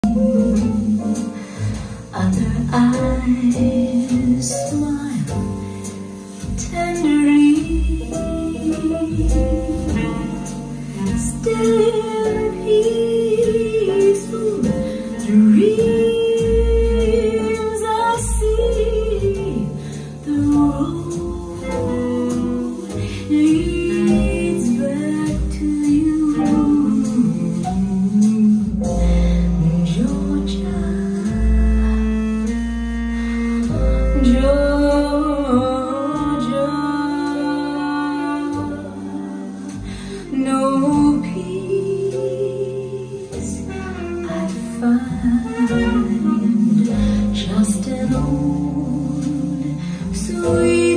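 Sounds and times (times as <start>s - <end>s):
deep bass notes: 0.0s - 50.9s.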